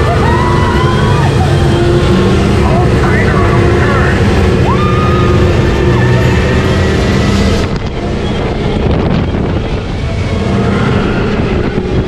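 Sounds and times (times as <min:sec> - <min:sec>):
ride car rumbling on track: 0:00.0 - 0:12.0
wind rushing over microphone: 0:00.0 - 0:12.0.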